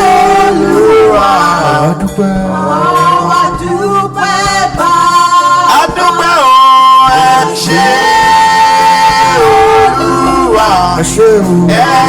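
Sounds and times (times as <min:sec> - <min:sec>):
person singing a praise song: 0:00.0 - 0:12.0.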